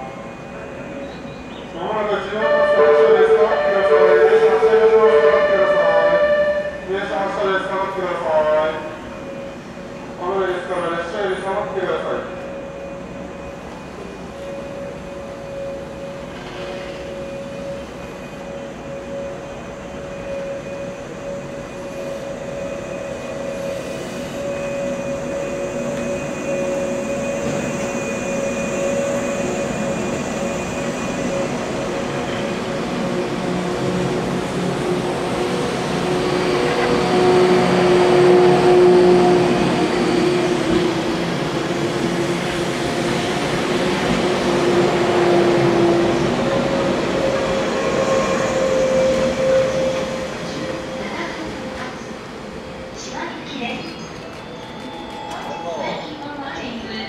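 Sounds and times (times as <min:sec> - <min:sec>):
electric train whine: 0:00.0 - 0:57.0
rail and running-gear rumble: 0:00.0 - 0:57.0.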